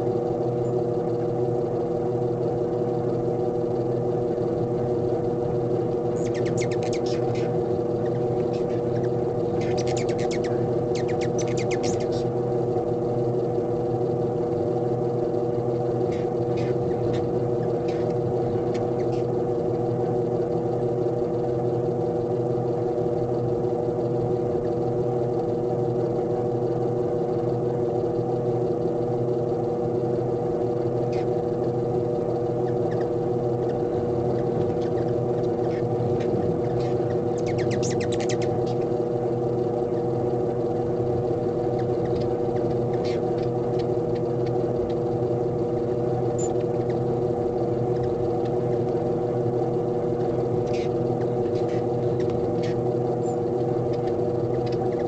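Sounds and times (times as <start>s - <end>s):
steady low hum: 0.0s - 55.0s
hummingbirds chipping: 0.3s - 21.7s, 30.2s - 55.0s.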